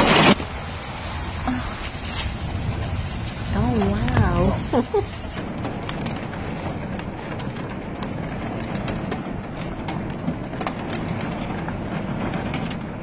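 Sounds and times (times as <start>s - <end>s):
heavy rain and hail on hard surfaces: 0.0s - 13.0s.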